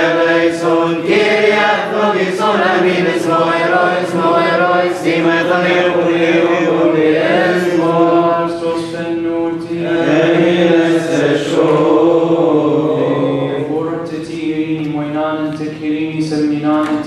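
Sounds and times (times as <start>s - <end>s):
men chanting a hymn: 0.0s - 17.0s.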